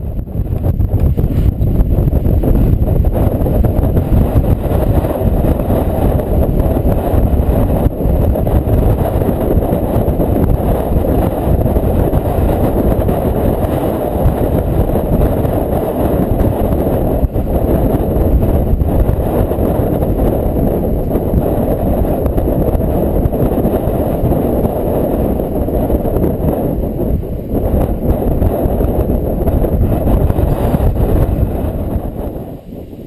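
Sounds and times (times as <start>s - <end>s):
wind buffeting the microphone: 0.0s - 33.0s.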